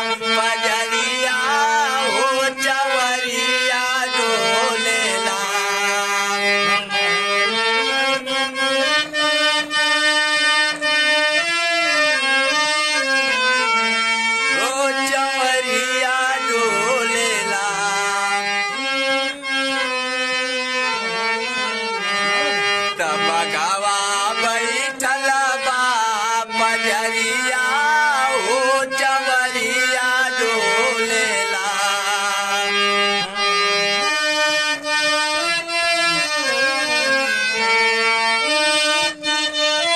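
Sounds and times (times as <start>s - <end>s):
harmonium melody: 0.0s - 39.9s.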